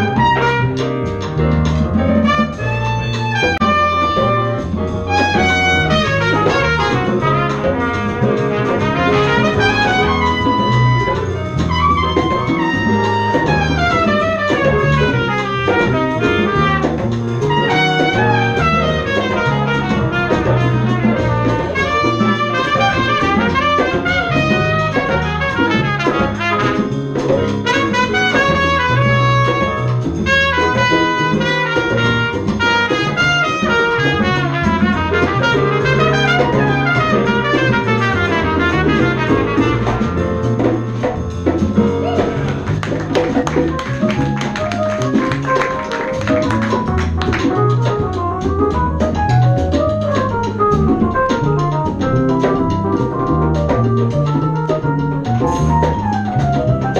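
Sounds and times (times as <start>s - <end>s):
drum kit: 0.0s - 56.9s
saxophone: 0.0s - 56.9s
trumpet: 0.0s - 56.9s
walking bass line: 0.0s - 56.9s.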